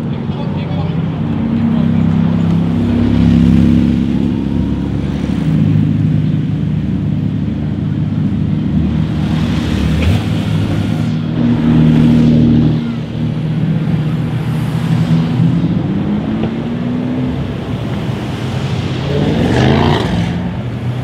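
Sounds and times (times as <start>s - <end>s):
sports car engines passing slowly: 0.0s - 21.0s.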